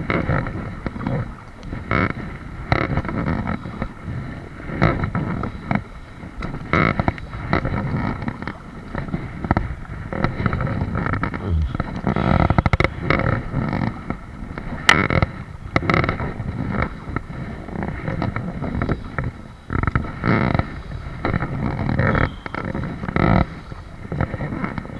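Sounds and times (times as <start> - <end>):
water lapping against hull: 0.0 - 24.9.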